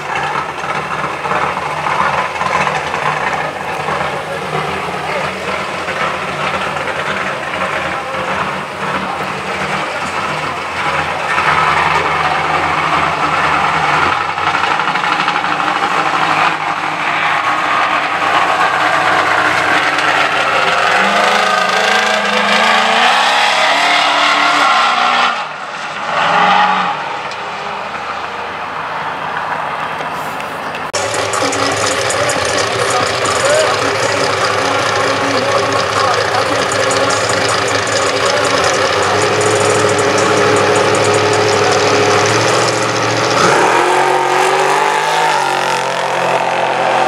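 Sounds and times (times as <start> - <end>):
engine blip: 0.0 - 25.4, 30.0 - 47.0
another engine roaring: 0.0 - 47.0
drag car engine at full throttle: 0.0 - 47.0.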